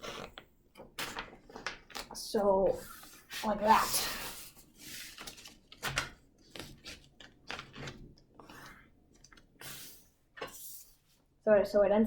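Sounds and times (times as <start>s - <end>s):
paper crinkling and rubbing: 1.0s - 11.2s.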